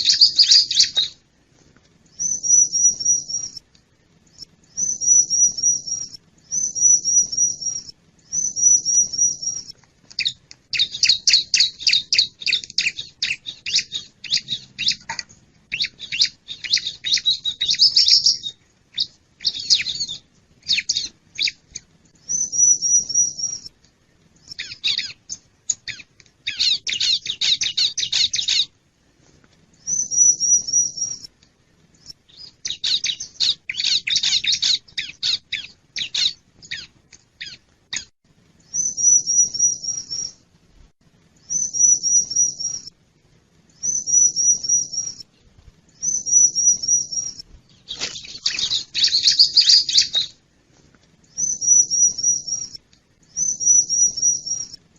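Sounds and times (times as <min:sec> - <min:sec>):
bird trilling and chipping: 0:00.0 - 0:01.2, 0:02.2 - 0:03.6, 0:04.3 - 0:21.6, 0:22.3 - 0:23.7, 0:24.4 - 0:28.7, 0:29.8 - 0:31.3, 0:32.0 - 0:38.1, 0:38.7 - 0:40.4, 0:41.5 - 0:42.9, 0:43.8 - 0:45.3, 0:46.0 - 0:50.4, 0:51.3 - 0:52.8, 0:53.4 - 0:54.8.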